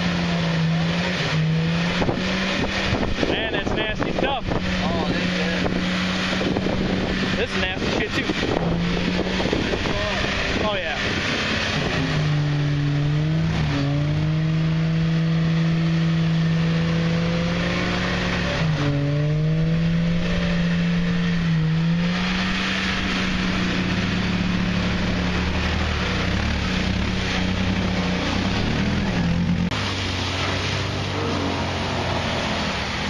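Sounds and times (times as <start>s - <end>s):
engine at high revs: 0.0s - 33.0s.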